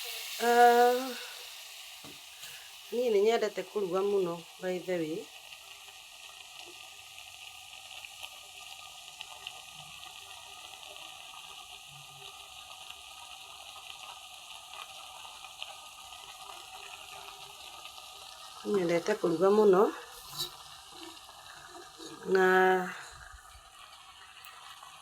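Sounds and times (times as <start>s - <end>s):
food sizzling in a pan: 0.0s - 25.0s
small pops of frying: 0.0s - 25.0s.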